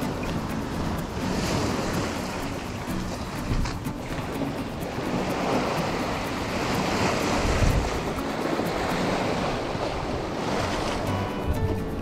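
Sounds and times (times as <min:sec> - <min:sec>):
sea waves: 0:00.0 - 0:12.0
wind buffeting microphone: 0:00.0 - 0:12.0.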